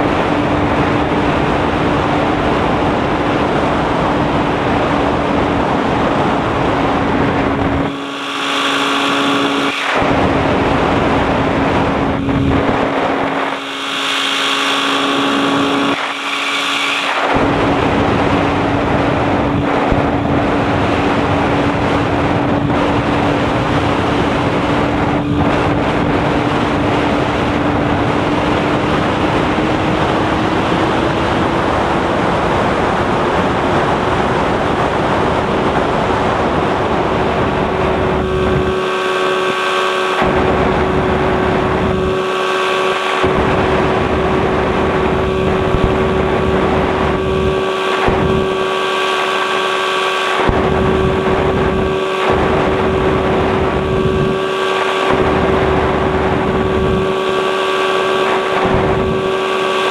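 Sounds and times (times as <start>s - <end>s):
light aircraft engine drone: 0.0s - 59.9s
wind noise: 0.0s - 59.9s.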